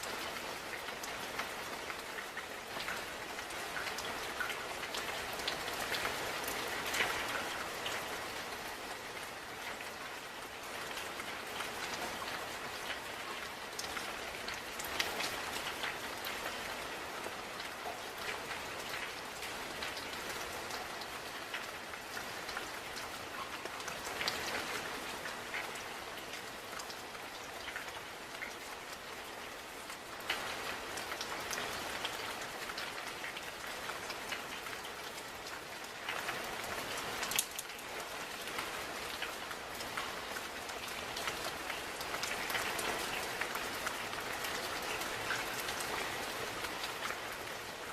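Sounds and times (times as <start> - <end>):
raindrops striking close by: 0.0 - 47.9
steady rain hiss: 0.0 - 47.9.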